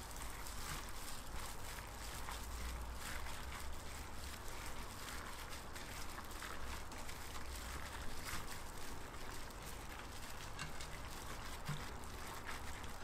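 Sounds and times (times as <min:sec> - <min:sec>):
wet squishing and smacking: 0:00.0 - 0:13.0.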